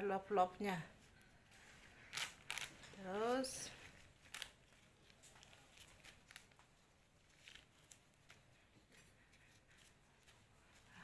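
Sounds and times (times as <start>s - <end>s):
fingers handling latex balloons: 1.0s - 11.0s.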